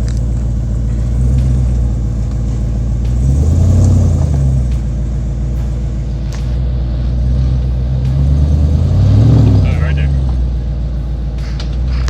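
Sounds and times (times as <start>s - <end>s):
truck engine running at low speed: 0.0s - 12.0s.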